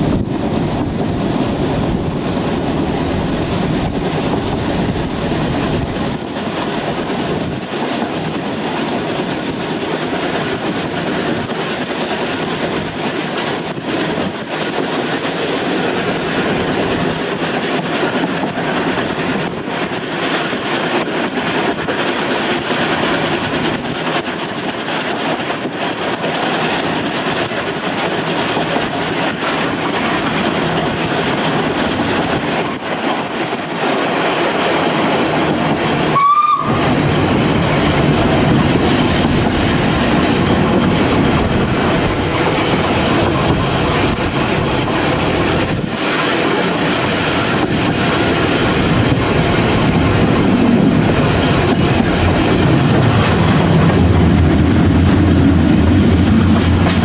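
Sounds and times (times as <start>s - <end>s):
train rumbling: 0.0s - 57.0s
wheels clicking over rail joints: 0.0s - 57.0s.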